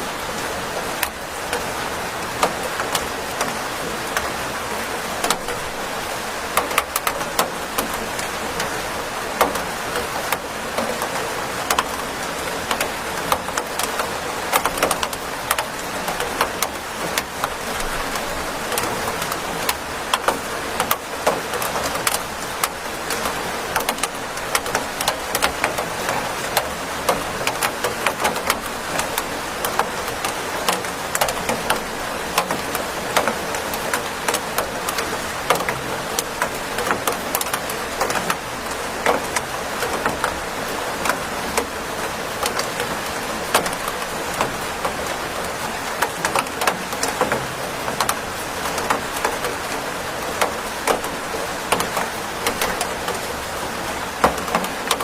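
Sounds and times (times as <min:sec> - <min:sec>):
steady rain hiss: 0:00.0 - 0:55.0
raindrop taps: 0:01.0 - 0:04.4, 0:05.2 - 0:05.8, 0:06.4 - 0:55.0.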